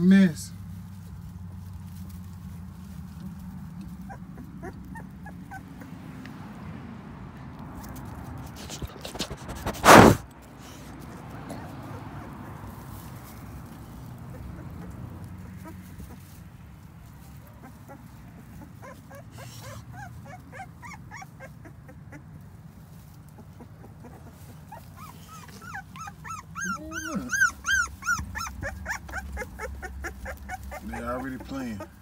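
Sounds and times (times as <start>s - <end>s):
puppies whimpering and squealing: 1.9s - 6.3s, 8.4s - 32.0s.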